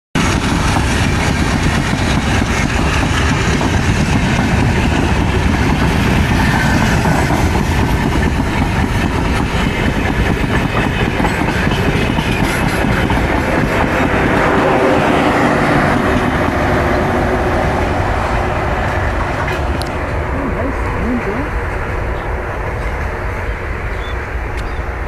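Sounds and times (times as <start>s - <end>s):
train wheels rumbling on rails: 0.2s - 25.0s.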